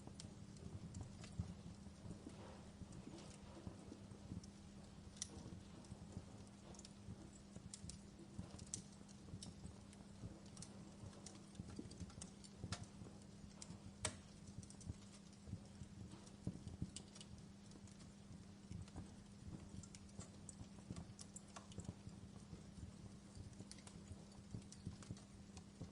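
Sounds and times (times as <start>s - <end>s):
steady low hum: 0.0s - 25.9s
wood fire crackling: 0.0s - 25.9s.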